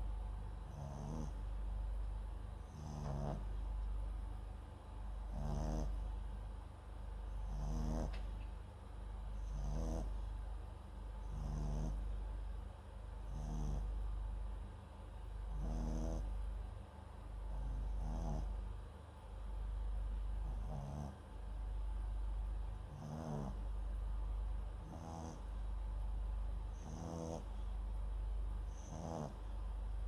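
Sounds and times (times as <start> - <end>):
dog snoring: 0.0 - 4.0, 4.8 - 8.5, 9.3 - 14.6, 15.4 - 19.5, 20.1 - 21.6, 22.7 - 30.0.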